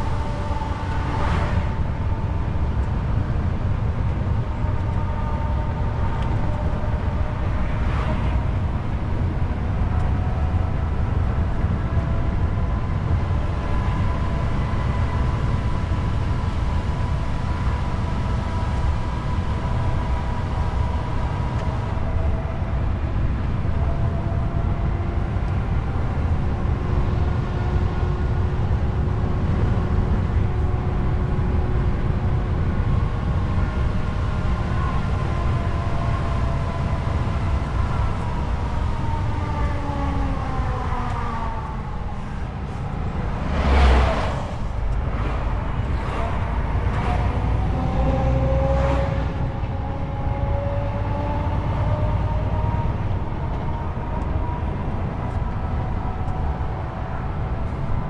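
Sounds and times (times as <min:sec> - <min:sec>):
road rumble: 0:00.0 - 0:58.0
truck diesel engine drone: 0:00.0 - 0:58.0.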